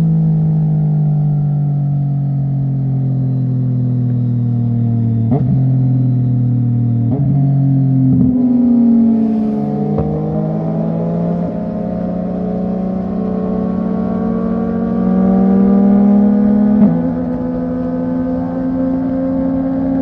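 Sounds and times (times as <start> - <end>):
motorcycle exhaust at speed: 0.0 - 20.0.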